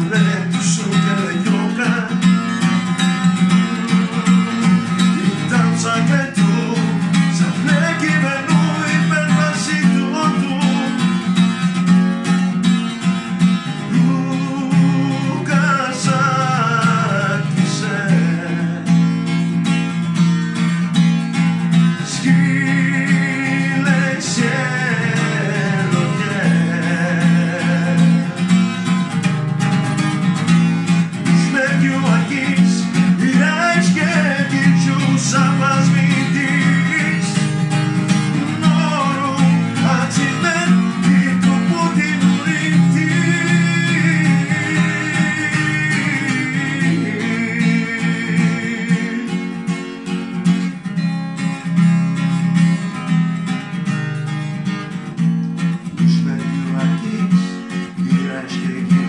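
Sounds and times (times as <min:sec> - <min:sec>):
man singing: 0:00.0 - 0:11.9, 0:13.5 - 0:19.7, 0:21.4 - 0:29.1, 0:30.4 - 0:49.8, 0:55.6 - 0:59.0
acoustic guitar strumming: 0:00.0 - 0:59.0.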